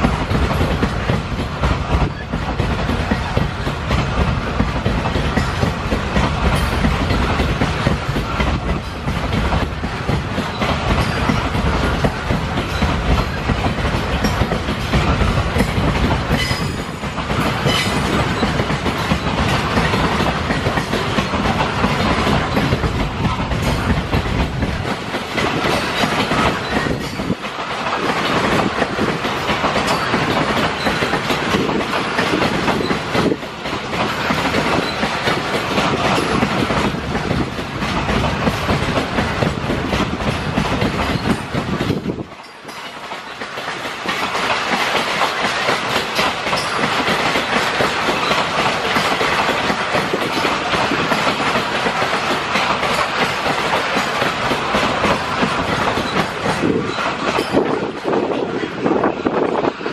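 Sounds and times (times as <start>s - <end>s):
train wheels clattering over rail joints: 0.0s - 59.9s.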